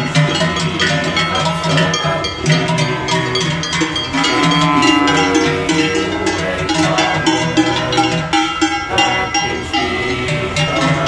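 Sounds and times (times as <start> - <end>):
cowbells clanging: 0.0 - 11.0.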